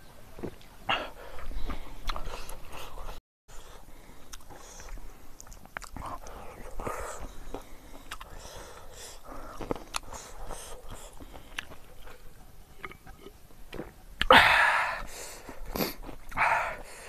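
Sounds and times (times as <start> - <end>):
person chewing: 0.4 - 14.4, 15.0 - 17.0.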